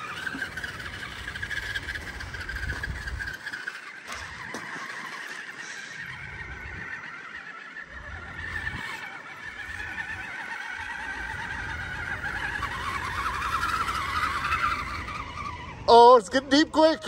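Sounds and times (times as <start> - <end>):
wading through shallow water: 0.0 - 15.7
electric motor and gears whining: 0.0 - 17.0.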